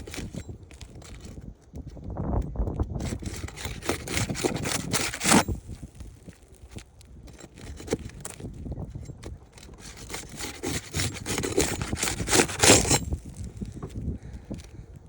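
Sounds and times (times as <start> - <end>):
pry bar scraping shingles: 0.0 - 14.9.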